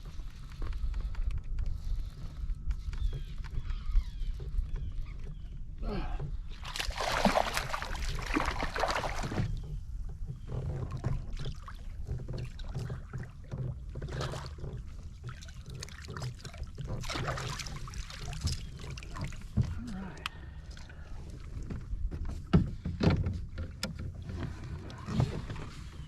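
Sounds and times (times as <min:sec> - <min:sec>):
water splashing around kayak: 0:00.0 - 0:26.0.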